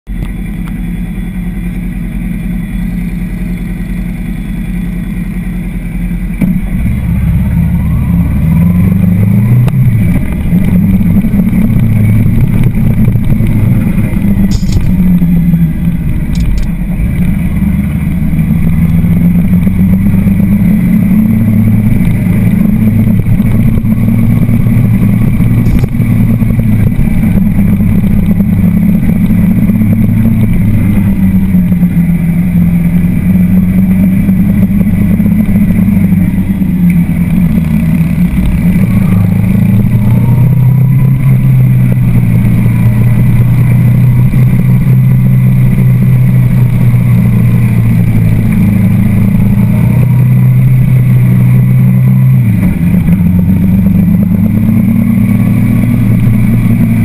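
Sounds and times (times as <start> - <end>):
motorcycle engine: 0.1 - 57.0.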